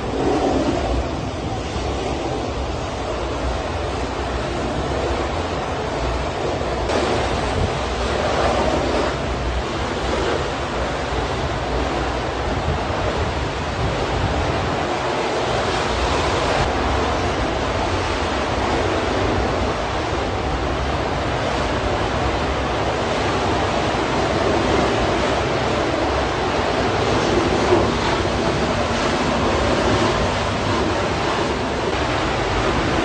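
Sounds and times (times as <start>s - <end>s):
gas flame jet roaring: 0.0s - 17.8s, 23.6s - 33.0s.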